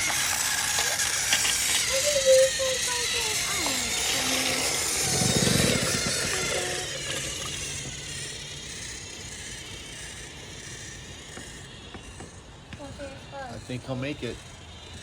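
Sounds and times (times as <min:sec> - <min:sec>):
toy train whirring on plastic track: 0:00.0 - 0:15.0.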